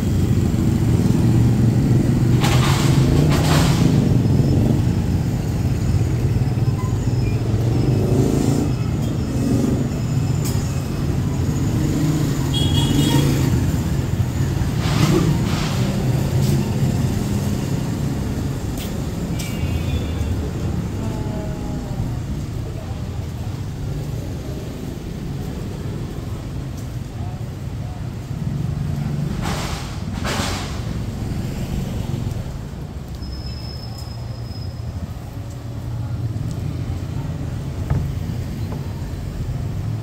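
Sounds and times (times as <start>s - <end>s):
road vehicles passing: 0.0s - 40.0s.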